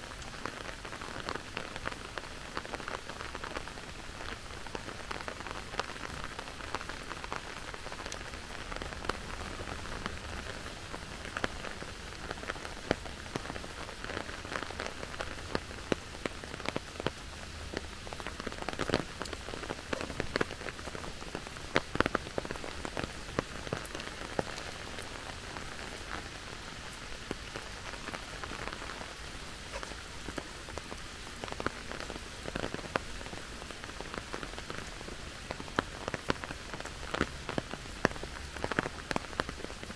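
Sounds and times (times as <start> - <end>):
sharp raindrops hitting close by: 0.0 - 39.9
steady rain falling: 0.0 - 39.9.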